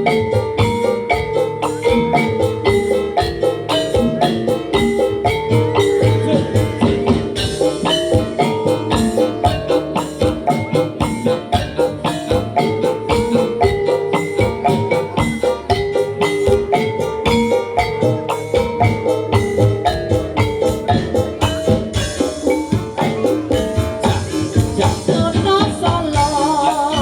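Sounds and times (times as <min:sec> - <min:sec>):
fast drum beat: 0:00.0 - 0:27.0
metal mallet keys melody: 0:00.0 - 0:27.0.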